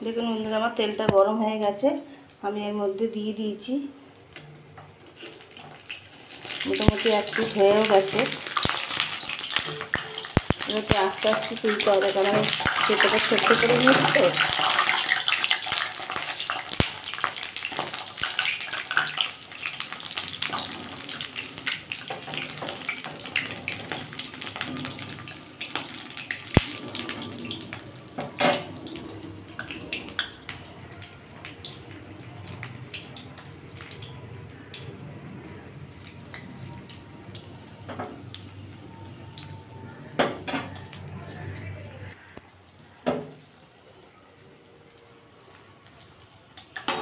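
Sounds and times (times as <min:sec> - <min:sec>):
food deep-frying in hot oil: 0:01.6 - 0:40.0, 0:40.6 - 0:47.0.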